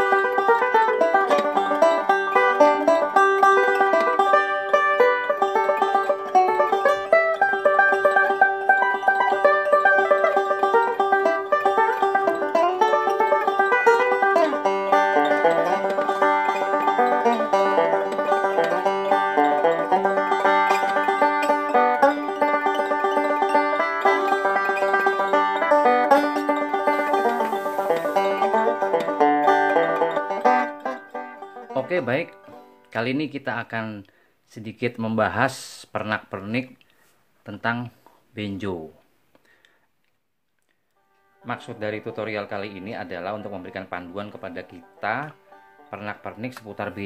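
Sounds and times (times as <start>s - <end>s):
banjo picking: 0.0s - 33.9s, 41.1s - 47.0s.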